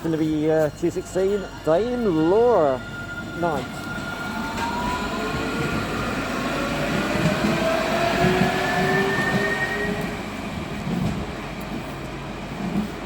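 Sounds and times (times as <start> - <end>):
tram motors whining: 0.0 - 13.0
wheels rumbling on rail: 0.0 - 13.0.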